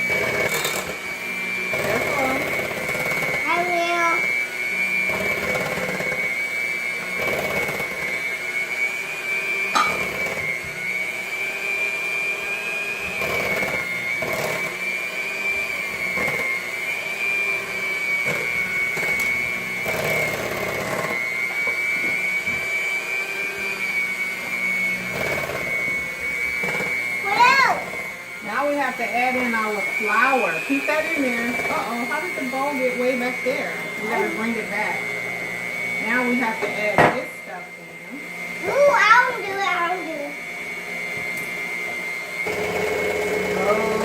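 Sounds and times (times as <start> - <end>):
electric mixer motor whine: 0.0 - 44.0.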